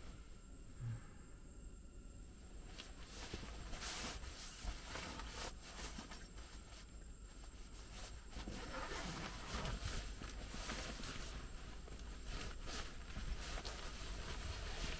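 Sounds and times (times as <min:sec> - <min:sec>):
rustling and scraping: 0:02.6 - 0:14.9.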